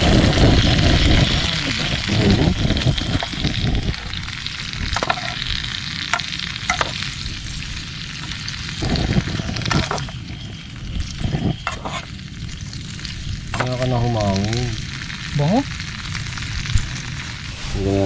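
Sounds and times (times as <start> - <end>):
shrimp sizzling in a pan: 0.0 - 18.0.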